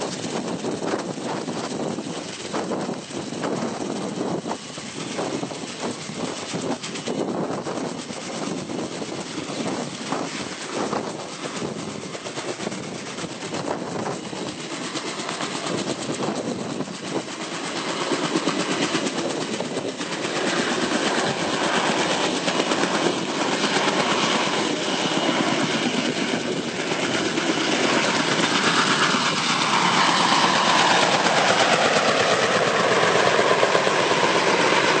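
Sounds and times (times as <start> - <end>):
helicopter rotor and engine: 0.0 - 35.0.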